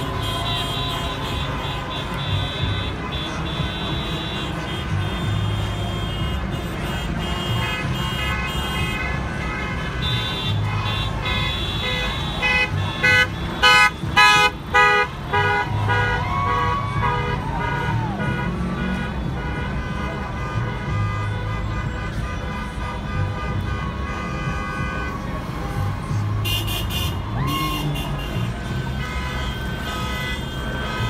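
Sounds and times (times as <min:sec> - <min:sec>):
car horns honking: 0:00.0 - 0:31.0
low traffic rumble: 0:00.0 - 0:31.0.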